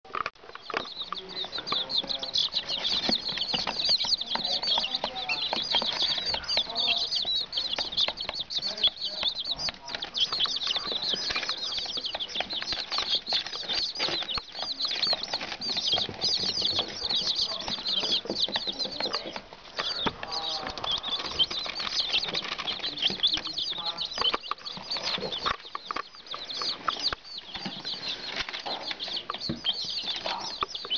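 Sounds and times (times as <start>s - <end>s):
chicks peeping: 0.1s - 30.9s.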